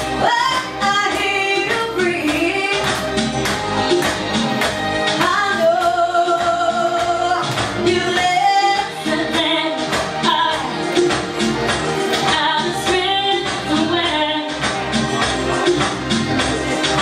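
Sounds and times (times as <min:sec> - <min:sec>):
instrumental backing with beat: 0:00.0 - 0:17.0
woman singing pop song: 0:00.0 - 0:17.0.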